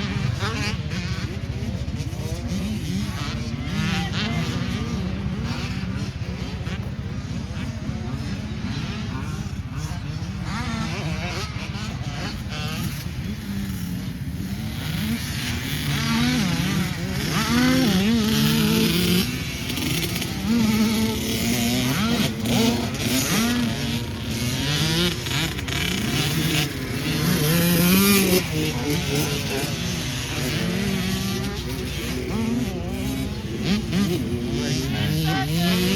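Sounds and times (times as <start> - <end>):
racing car engine revving: 0.0 - 35.9.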